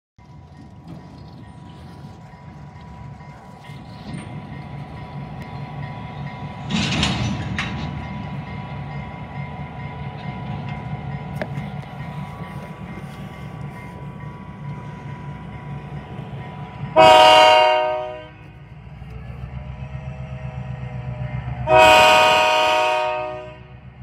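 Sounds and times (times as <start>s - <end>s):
locomotive engine running: 0.2s - 24.0s.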